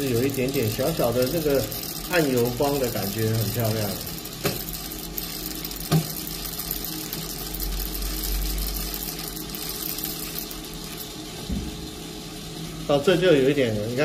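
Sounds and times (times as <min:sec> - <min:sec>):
coffee roaster motor and fan: 0:00.0 - 0:14.0.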